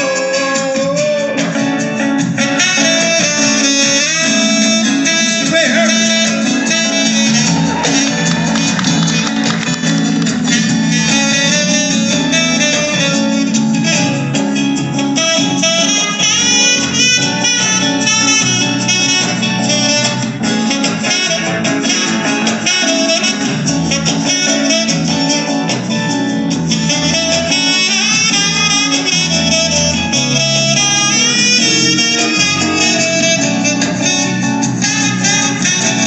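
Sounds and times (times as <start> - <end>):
keyboard: 0.0 - 36.0
saxophone: 0.0 - 36.0.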